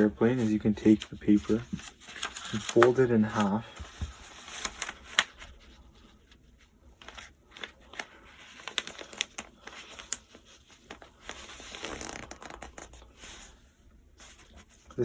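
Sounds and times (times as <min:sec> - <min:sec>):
paper rustling and crackling: 0:00.0 - 0:15.0.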